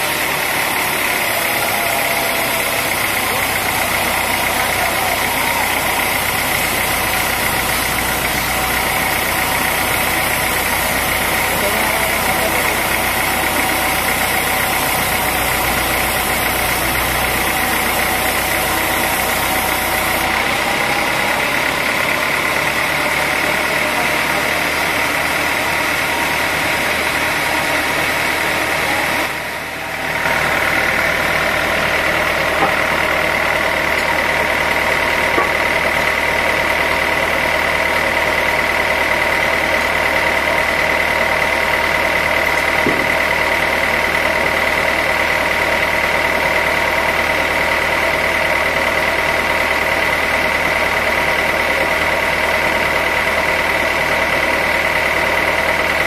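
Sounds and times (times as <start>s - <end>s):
high machine whine: 0.0s - 56.0s
sawmill machinery running: 0.0s - 56.0s.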